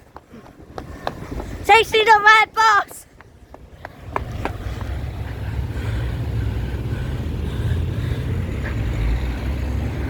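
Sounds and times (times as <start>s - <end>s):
bus engine rumbling: 0.0s - 10.0s.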